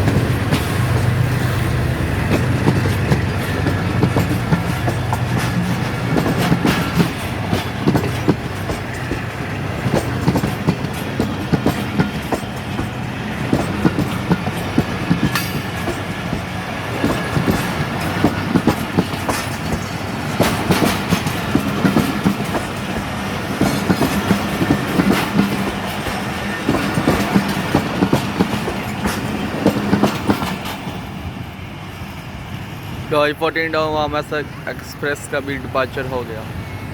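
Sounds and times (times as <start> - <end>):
train rumble: 0.0 - 36.9
train wheels clacking: 0.0 - 36.9.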